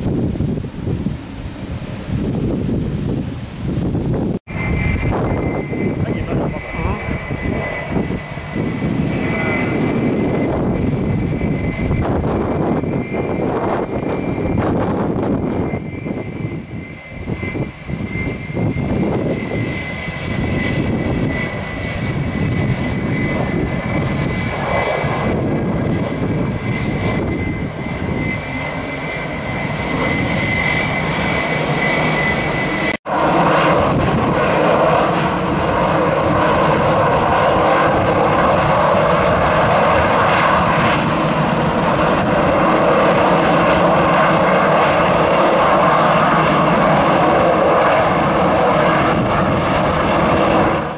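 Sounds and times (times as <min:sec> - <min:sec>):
jet engine noise on runway: 0:00.0 - 0:50.9
jet engine rumble with whine: 0:00.0 - 0:50.9.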